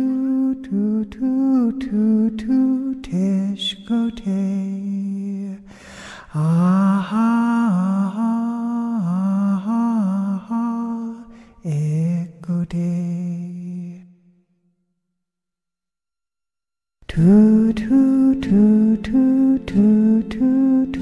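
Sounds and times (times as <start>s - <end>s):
person singing a slow melody: 0.0s - 14.2s, 17.0s - 21.0s.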